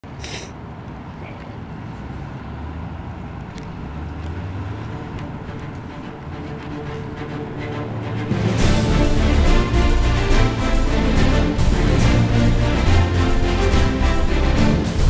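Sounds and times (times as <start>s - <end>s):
low rumble of rolling wheels: 0.7s - 13.8s.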